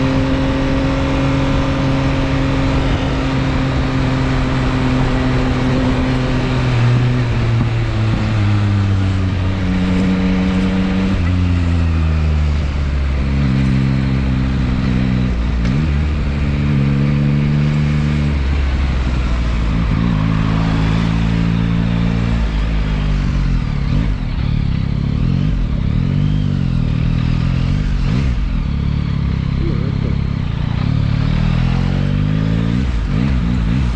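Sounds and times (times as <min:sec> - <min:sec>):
motorcycle engine: 0:00.0 - 0:33.9.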